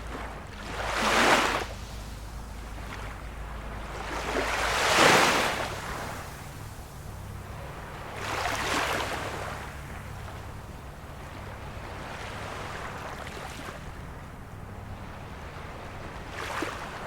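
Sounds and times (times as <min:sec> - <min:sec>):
small waves washing onto shore: 0:00.0 - 0:17.0
steady low rumble: 0:00.0 - 0:17.0.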